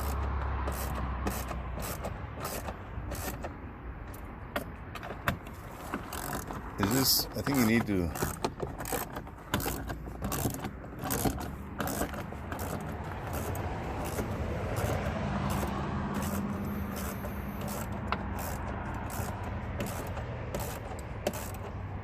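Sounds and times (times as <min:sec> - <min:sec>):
screws clicking while tightened: 0:00.0 - 0:22.0.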